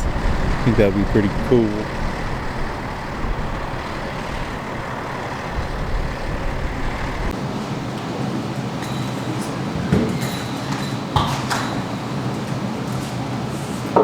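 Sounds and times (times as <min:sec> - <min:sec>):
road noise: 0:00.0 - 0:14.0
truck engine rumble: 0:00.0 - 0:14.0.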